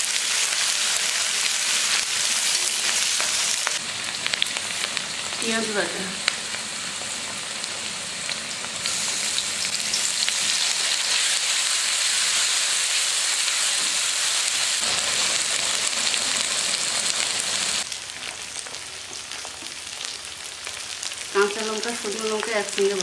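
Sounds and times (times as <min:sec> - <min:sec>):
paste sizzling in hot oil: 0:00.0 - 0:22.8.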